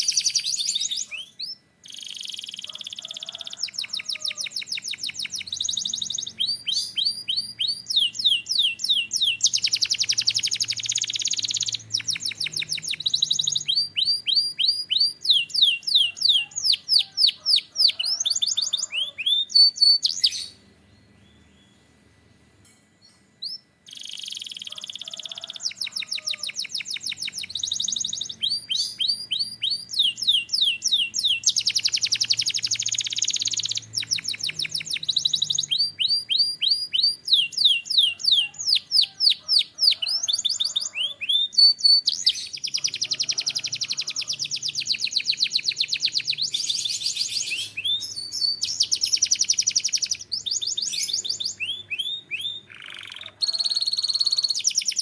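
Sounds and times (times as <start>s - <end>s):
canary singing fast trills: 0.0s - 21.9s, 23.4s - 55.0s.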